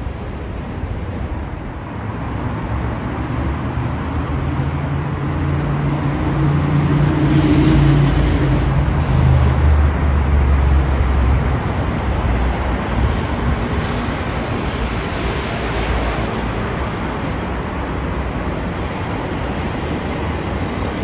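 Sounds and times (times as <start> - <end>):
city traffic noise: 0.0 - 21.0
electric train approaching: 0.0 - 21.0.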